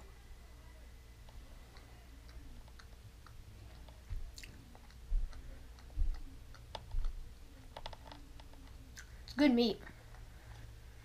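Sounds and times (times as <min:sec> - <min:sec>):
soft wet chewing: 0:00.6 - 0:11.0.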